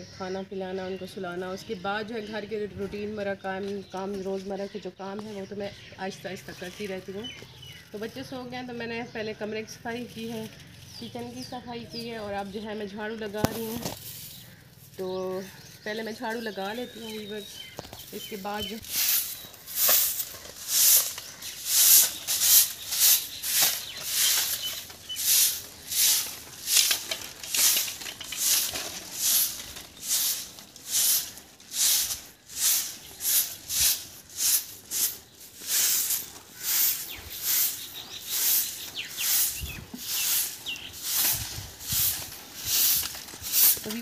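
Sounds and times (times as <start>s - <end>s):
broom sweeping packed earth: 2.3s - 8.4s, 9.6s - 44.0s.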